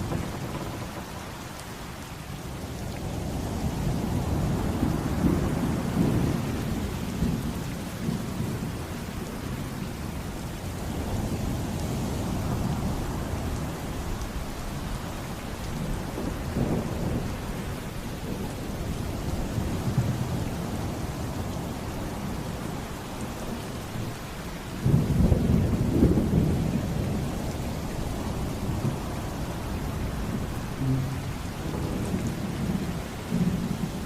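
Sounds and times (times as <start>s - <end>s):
low thunder rumbling: 0.0s - 9.3s, 10.8s - 34.0s
heavy rain pouring: 0.0s - 34.0s.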